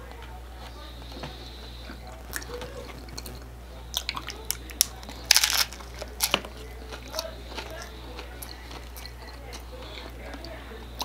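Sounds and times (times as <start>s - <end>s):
taco crunching: 0.0s - 11.0s.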